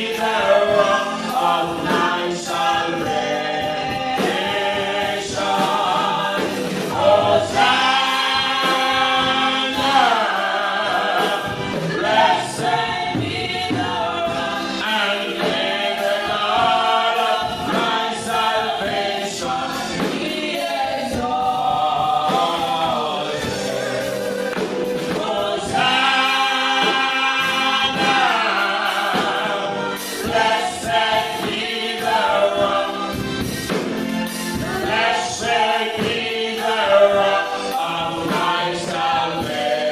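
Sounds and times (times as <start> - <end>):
gospel choir singing: 0.0 - 39.9.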